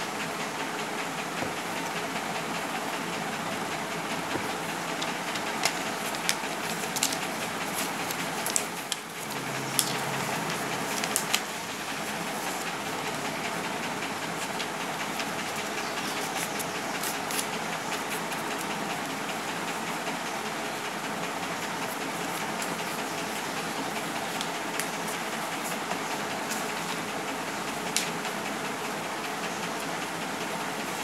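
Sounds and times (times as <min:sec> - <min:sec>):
steady hissing noise: 0:00.0 - 0:31.0
paper crinkling and folding: 0:02.6 - 0:28.3.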